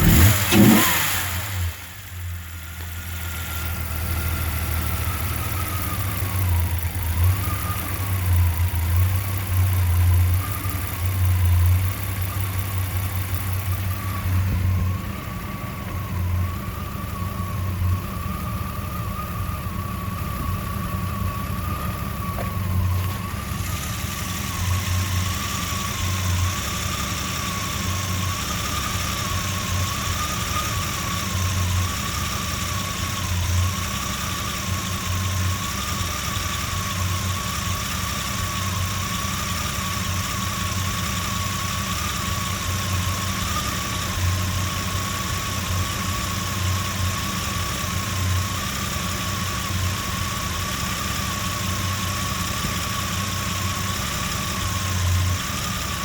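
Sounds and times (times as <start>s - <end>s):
engine idling roughly: 0.0s - 56.0s
wavering engine whine: 0.0s - 56.0s.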